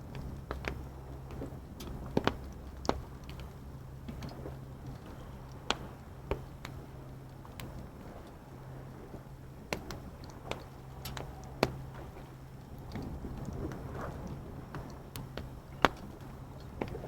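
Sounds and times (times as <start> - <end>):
steady low hum: 0.0 - 17.0
wood fire crackling: 0.0 - 17.0.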